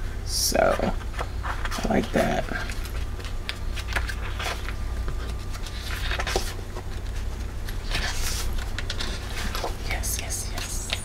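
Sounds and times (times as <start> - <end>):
low background hum: 0.0 - 11.0
paper pages rustling: 0.7 - 11.0
sliding paper rustle: 0.7 - 11.0.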